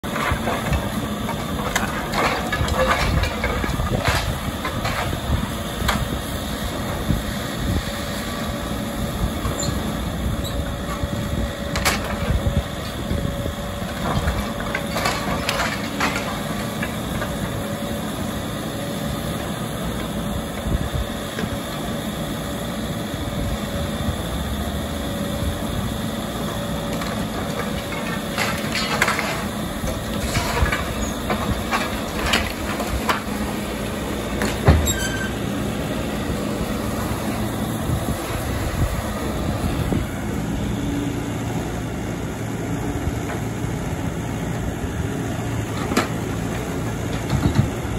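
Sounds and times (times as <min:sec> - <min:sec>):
excavator engine and hydraulics: 0:00.0 - 0:47.9.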